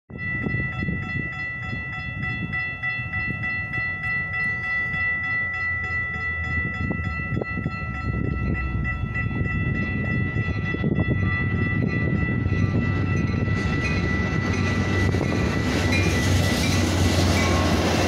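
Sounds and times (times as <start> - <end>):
crossing warning bell ringing: 0.1 - 18.0.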